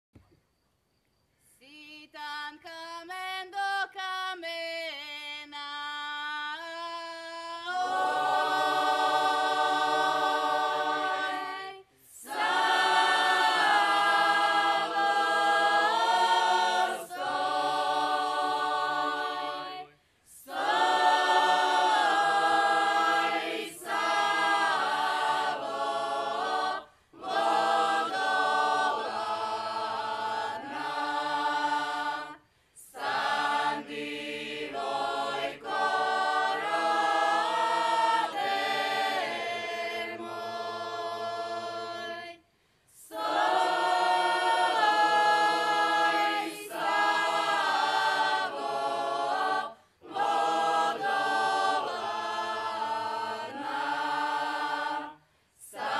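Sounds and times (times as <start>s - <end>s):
mixed group singing a cappella: 1.6s - 55.9s.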